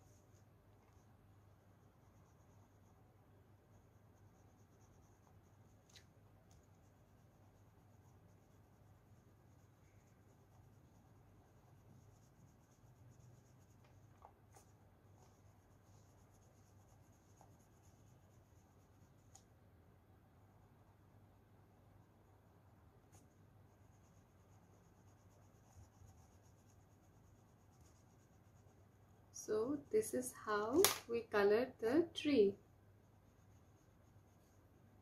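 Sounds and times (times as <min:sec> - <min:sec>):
colouring strokes scratching paper: 0:00.0 - 0:19.6, 0:23.0 - 0:30.6, 0:32.6 - 0:35.0
low steady hum: 0:00.0 - 0:35.0.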